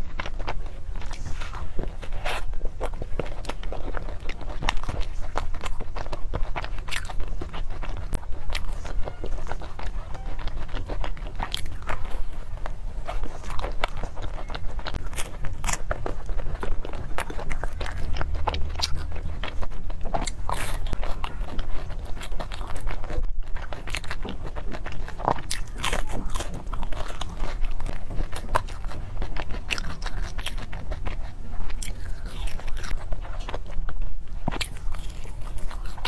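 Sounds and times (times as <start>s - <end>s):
crunchy chewing: 0.0s - 36.0s.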